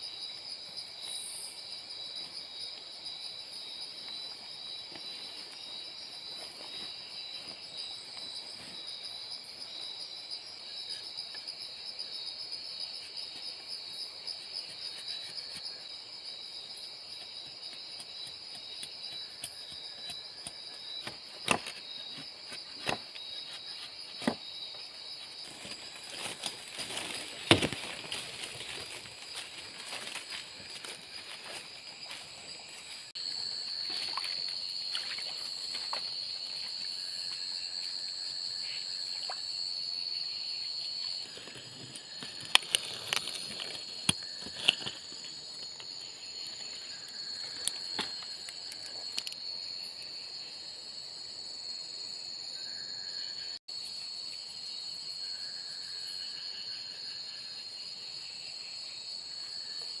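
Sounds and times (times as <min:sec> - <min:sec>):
crickets trilling: 0:00.0 - 1:00.0.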